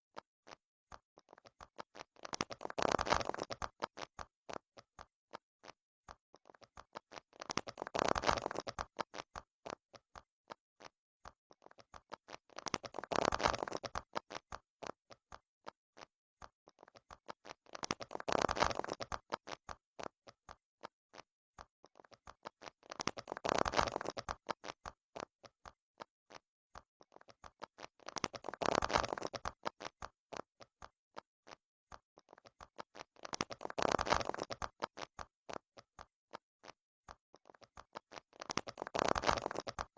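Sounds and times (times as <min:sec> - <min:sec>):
fidget toy bubbles popping: 0:00.1 - 0:39.9.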